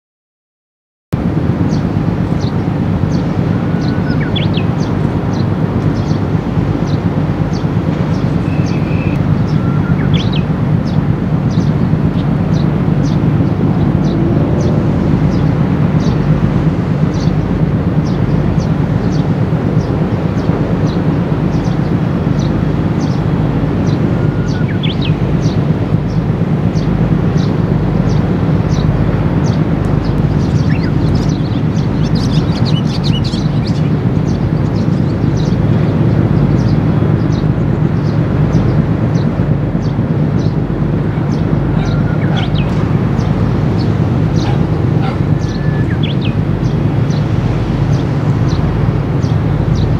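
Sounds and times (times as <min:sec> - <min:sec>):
tugboat diesel engines droning: 0:01.2 - 0:49.9
small birds chirping: 0:01.7 - 0:49.9.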